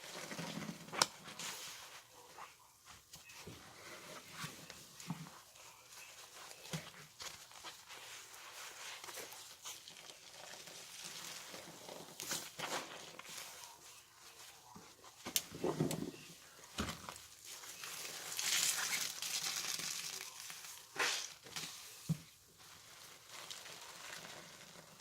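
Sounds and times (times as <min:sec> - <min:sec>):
sponge squishing: 0:00.0 - 0:25.0.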